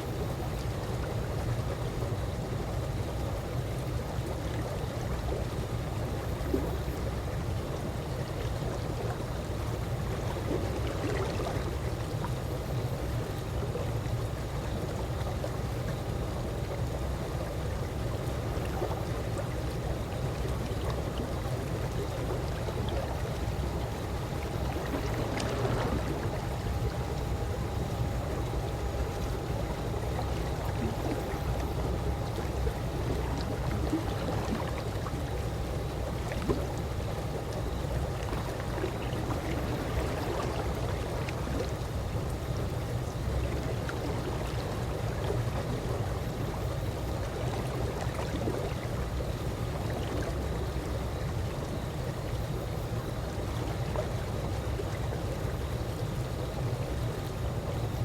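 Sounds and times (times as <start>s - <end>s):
faint hum: 0.0s - 58.0s
pool water lapping: 0.0s - 58.0s
small water splashes: 3.6s - 58.0s.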